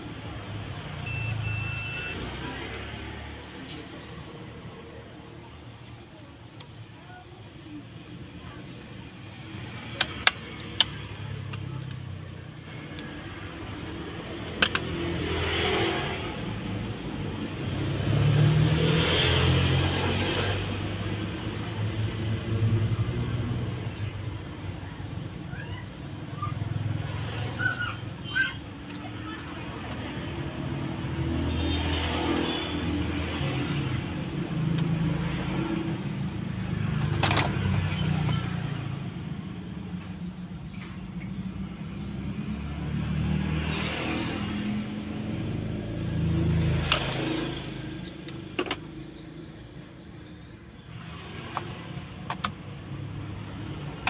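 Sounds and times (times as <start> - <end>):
vehicles passing by: 0.0 - 54.0.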